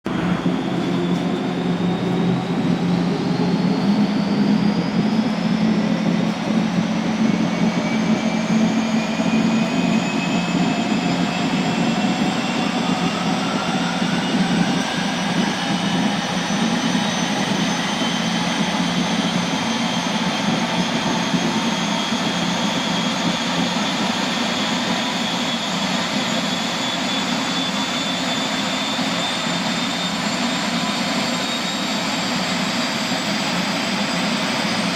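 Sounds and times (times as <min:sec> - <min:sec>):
gas turbine spooling up: 0:00.0 - 0:34.9.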